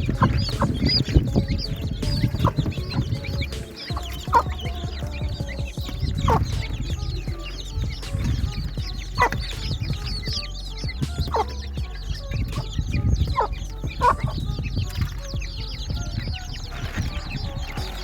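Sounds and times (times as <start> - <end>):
baby chicks peeping: 0.0 - 18.0
hen clucking: 0.0 - 18.0.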